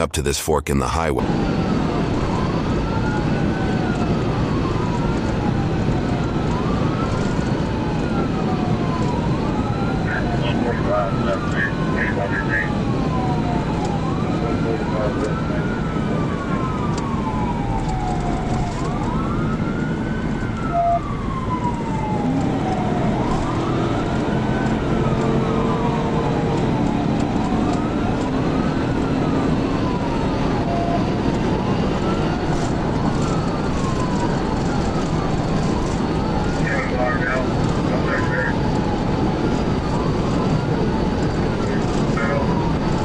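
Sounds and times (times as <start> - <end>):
road and engine noise: 0.0 - 43.0
police siren wailing: 1.2 - 43.0.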